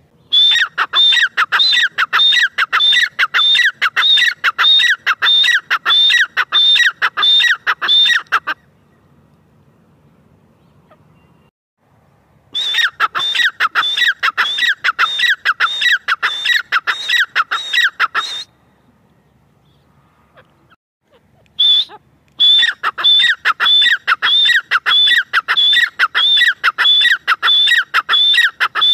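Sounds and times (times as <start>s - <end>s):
bird calling shrill notes: 0.2s - 9.1s, 12.5s - 19.9s, 21.3s - 28.9s.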